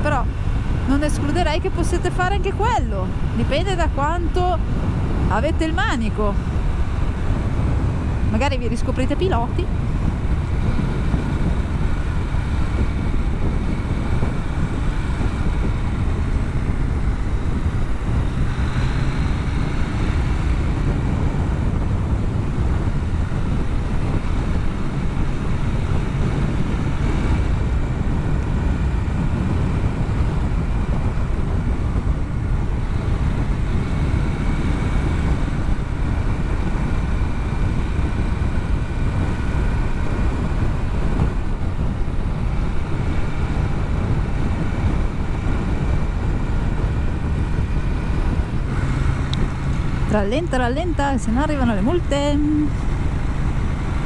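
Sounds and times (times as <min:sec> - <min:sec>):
motorcycle engine running: 0:00.0 - 0:54.0
wind noise on microphone: 0:00.0 - 0:54.0.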